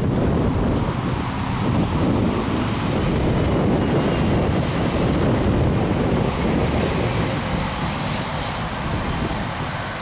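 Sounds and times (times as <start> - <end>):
truck driving past: 0.0 - 10.0
wind buffeting microphone: 0.0 - 10.0.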